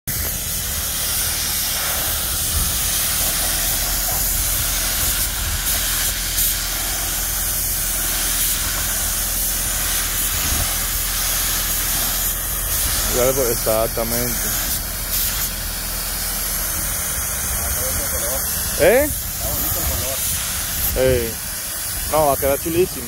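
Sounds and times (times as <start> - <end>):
paint spray gun hissing: 0.1 - 23.0.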